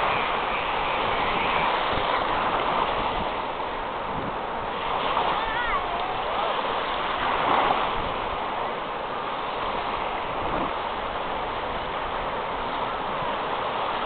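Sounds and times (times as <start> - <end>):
small waves breaking: 0.0 - 14.0.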